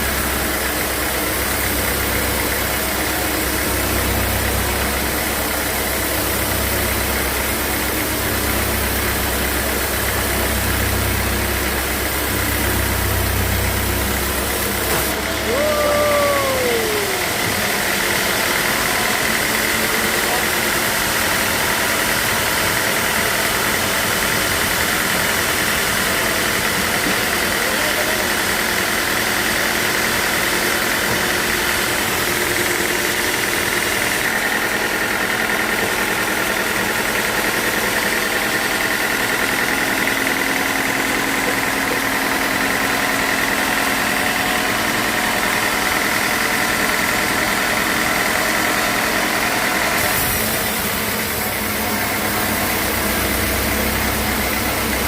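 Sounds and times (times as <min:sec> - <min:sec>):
sawmill machinery whine: 0:00.0 - 0:55.0.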